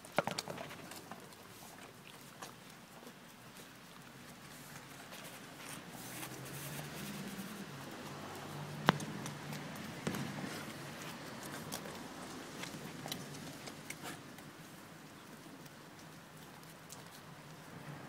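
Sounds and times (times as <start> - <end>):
dog chewing food: 0.0 - 17.8.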